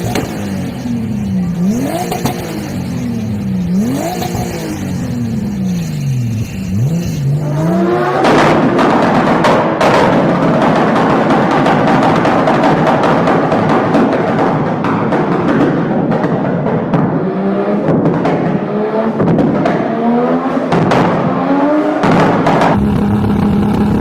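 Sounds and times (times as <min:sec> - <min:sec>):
car engine revving: 0:00.0 - 0:24.0
exhaust pops and backfire: 0:00.0 - 0:24.0.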